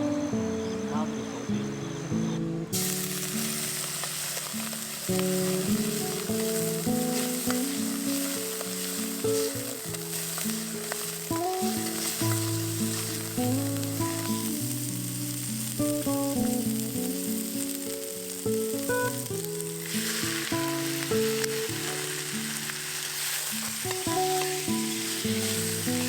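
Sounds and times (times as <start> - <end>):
food sizzling in a frying pan: 2.8 - 26.0.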